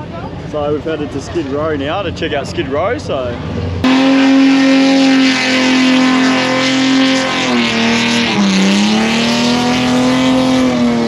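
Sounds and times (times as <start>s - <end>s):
car engine at high revs: 0.9s - 11.0s.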